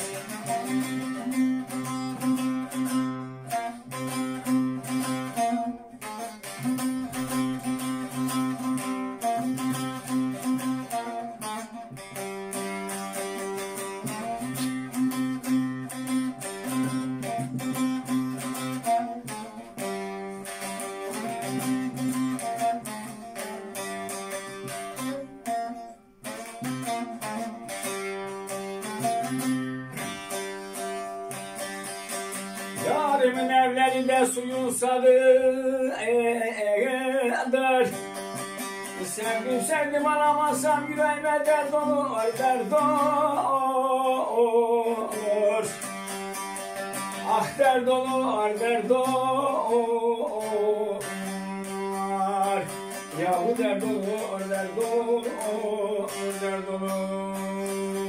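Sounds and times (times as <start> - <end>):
long-necked lute picked solo: 0.0 - 58.0.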